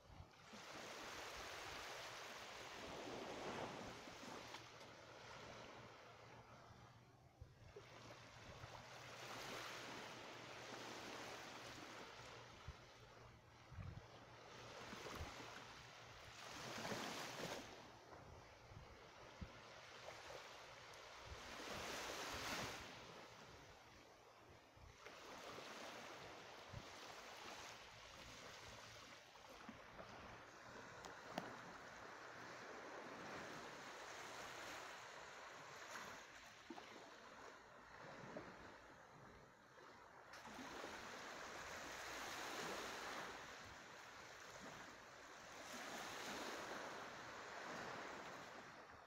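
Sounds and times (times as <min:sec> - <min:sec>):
gentle surf on sandy shore: 0:00.0 - 0:49.0.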